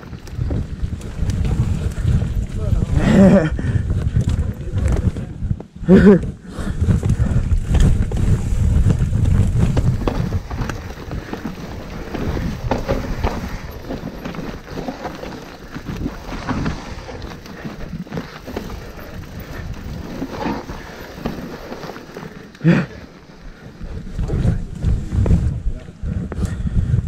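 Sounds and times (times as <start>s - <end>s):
wind buffeting microphone: 0.0s - 21.8s, 22.9s - 27.0s
bike rattling over bumps: 0.0s - 27.0s.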